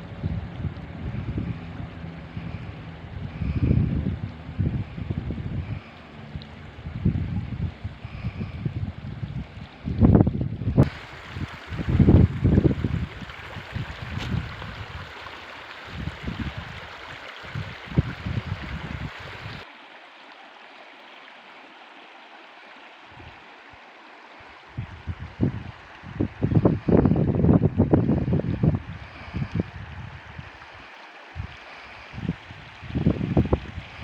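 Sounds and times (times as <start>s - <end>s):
wind buffeting microphone: 0.0s - 15.2s, 15.8s - 19.6s, 24.7s - 30.7s, 31.4s - 34.0s
flowing water rushing: 0.0s - 34.0s.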